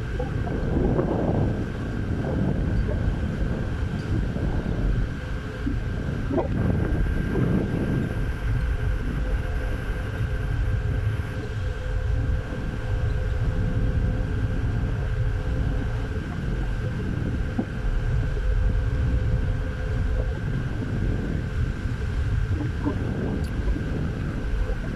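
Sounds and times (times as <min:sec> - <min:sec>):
constant hum: 0:00.0 - 0:24.9
low engine rumble: 0:00.0 - 0:24.9
wind buffeting microphone: 0:00.0 - 0:24.9.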